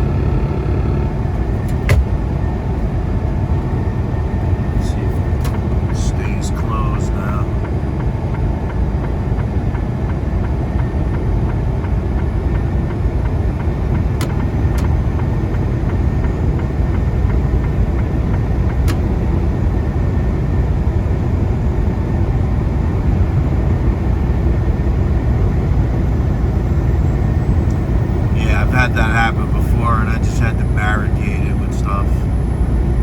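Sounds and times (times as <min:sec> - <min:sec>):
road and tyre noise: 0:00.0 - 0:33.0
truck engine drone: 0:00.0 - 0:33.0.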